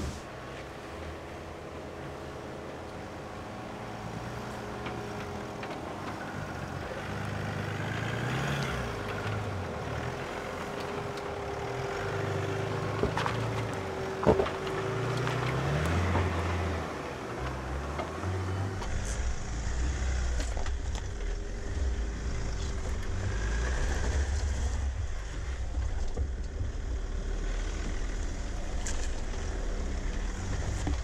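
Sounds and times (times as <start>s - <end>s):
engine pulling at low speed: 0.0s - 31.0s.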